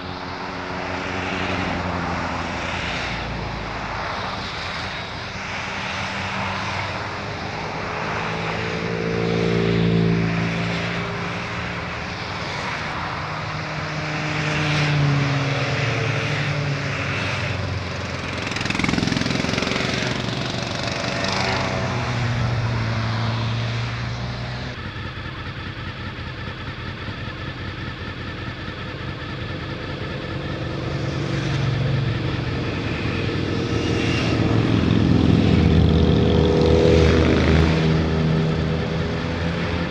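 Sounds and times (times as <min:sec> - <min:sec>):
motorcycles riding past: 0:00.0 - 0:26.0, 0:26.6 - 0:39.9
motorcycle engine drone: 0:00.0 - 0:39.9
wind and road noise: 0:00.0 - 0:39.9.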